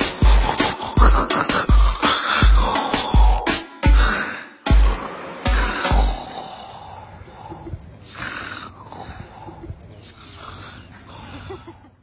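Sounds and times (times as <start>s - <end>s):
man snoring: 0.0s - 11.4s.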